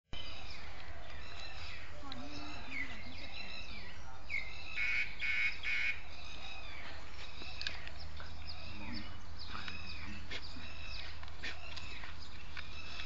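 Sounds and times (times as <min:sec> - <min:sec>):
birds chirping and whistling: 0:00.2 - 0:13.0.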